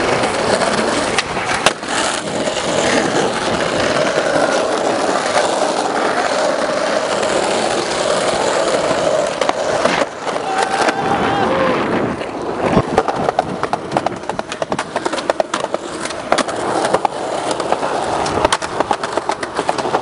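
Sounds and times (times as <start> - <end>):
skateboard wheels on concrete: 0.0 - 20.0.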